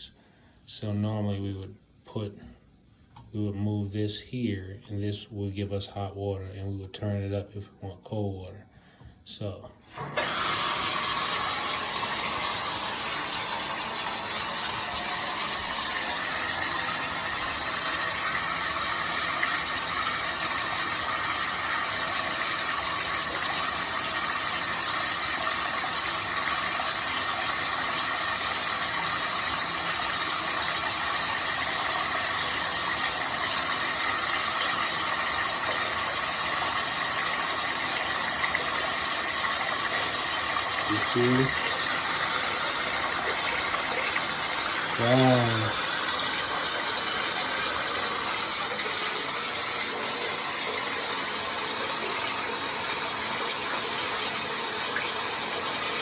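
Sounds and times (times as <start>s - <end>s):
faucet water running into tub: 9.8s - 56.0s.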